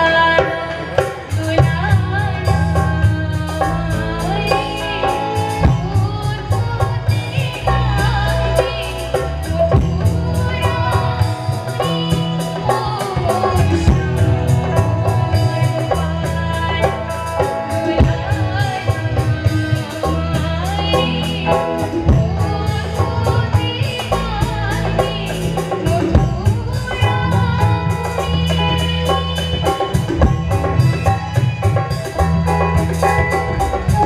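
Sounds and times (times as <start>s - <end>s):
steady drum beat: 0.0s - 34.0s
woman singing into microphone: 0.0s - 34.0s
heavy bass line: 1.6s - 34.0s.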